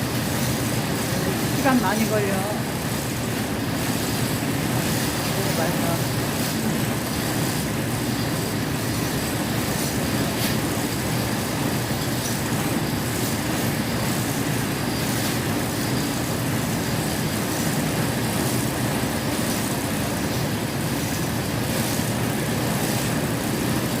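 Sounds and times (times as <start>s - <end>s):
spinning machine humming: 0.0s - 24.0s.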